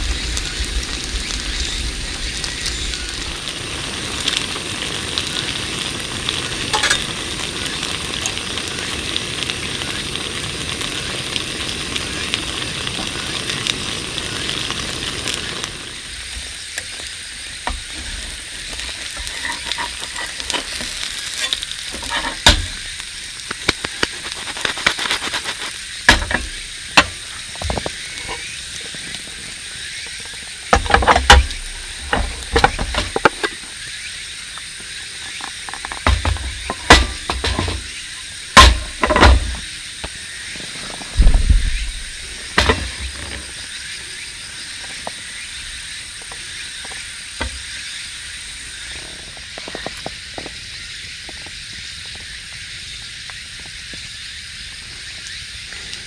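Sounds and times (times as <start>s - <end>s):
sharp crackles and pops: 0.0s - 56.0s
sizzling: 0.0s - 56.0s.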